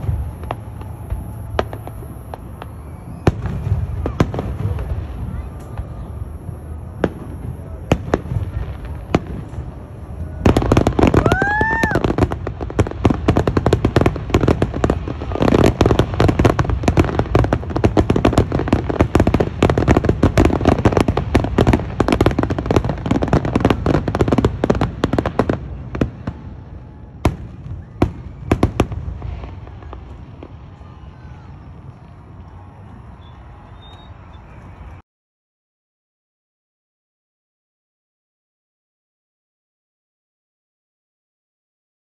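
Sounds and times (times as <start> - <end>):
fireworks bangs and crackles: 0.0 - 35.0
rising firework whistle: 0.0 - 35.0.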